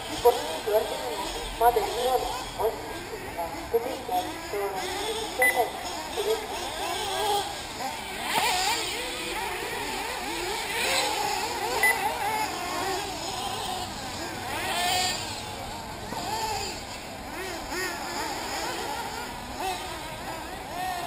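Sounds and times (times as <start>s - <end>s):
model car engines racing: 0.0s - 21.0s.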